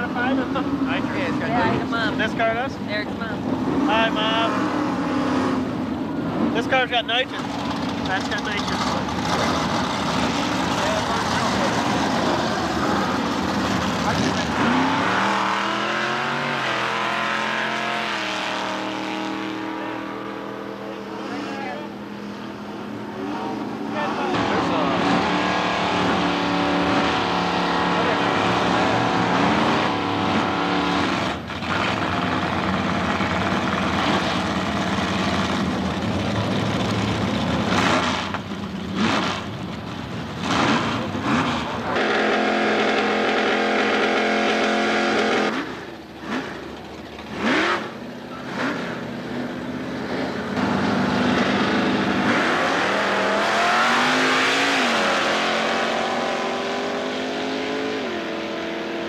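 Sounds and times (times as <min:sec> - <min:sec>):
drag racing engines revving: 0:00.0 - 0:59.0.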